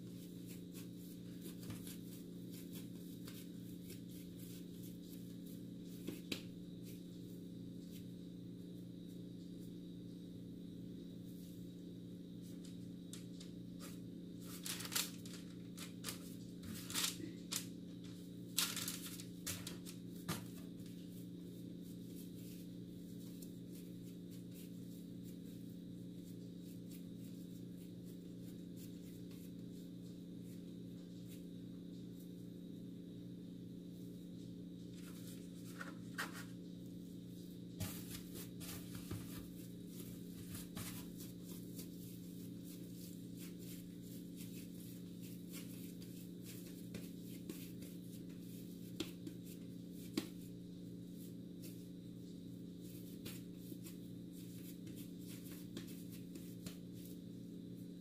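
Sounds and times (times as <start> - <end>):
hands shaping dough: 0.0 - 32.8, 33.8 - 58.0
steady low hum: 0.0 - 58.0.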